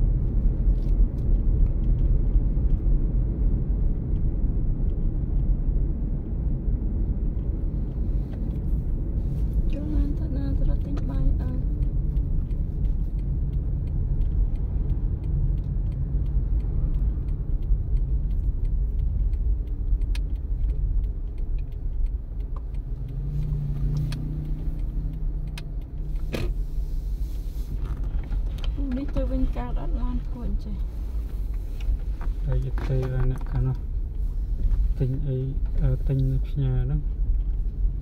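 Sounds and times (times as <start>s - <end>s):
engine and tyre rumble: 0.0s - 38.0s.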